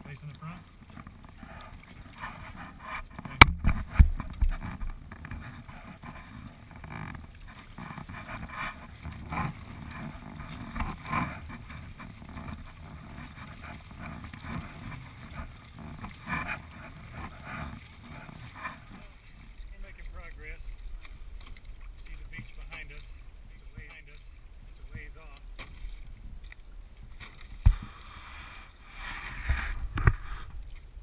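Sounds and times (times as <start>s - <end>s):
paddle strokes: 0.0s - 31.0s
water splashing around canoe: 0.0s - 31.0s.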